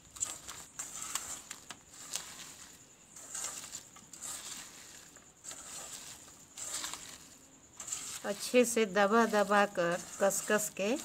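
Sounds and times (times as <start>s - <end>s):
hands squishing food mix: 0.1s - 11.0s.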